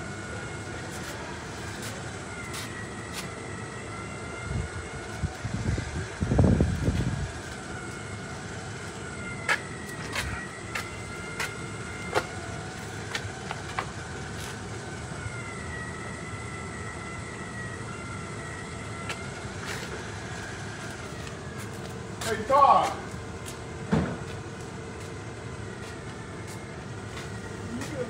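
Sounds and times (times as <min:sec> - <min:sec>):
smoker humming with whine: 0:00.0 - 0:28.0.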